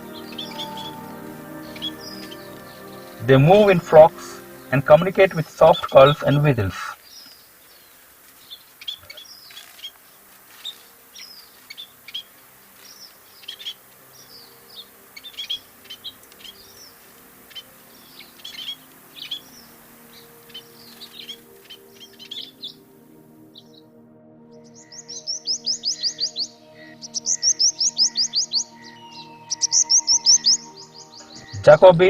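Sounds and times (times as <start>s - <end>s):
birds chirping: 0.0s - 32.0s
faint musical drone: 0.0s - 32.0s.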